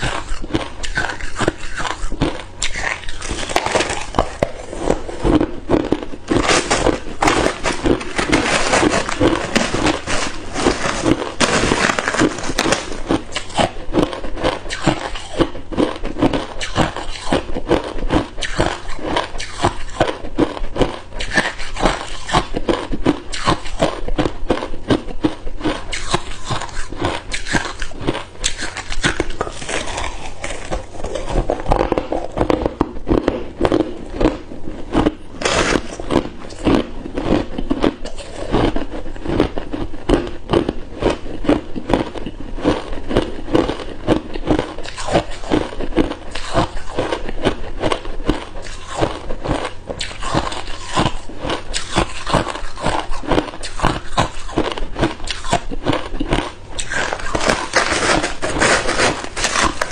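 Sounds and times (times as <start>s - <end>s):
ice cubes crunching in mouth: 0.0s - 59.9s.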